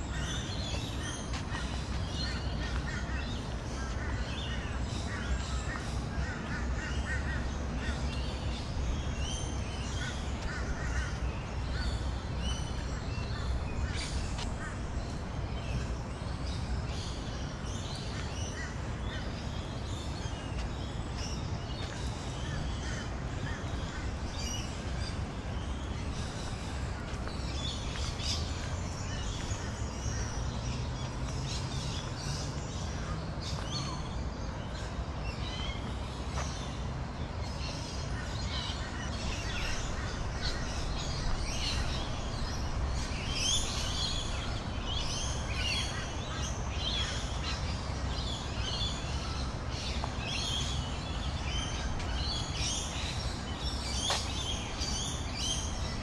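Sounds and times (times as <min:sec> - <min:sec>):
birds chirping: 0:00.0 - 0:56.0
low city hum: 0:00.0 - 0:56.0.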